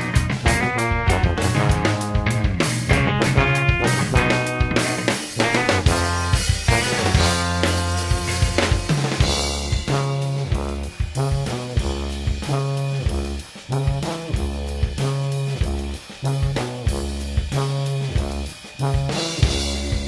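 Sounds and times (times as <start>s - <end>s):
drum kit beat: 0.0s - 20.0s
low bass line: 0.0s - 20.0s.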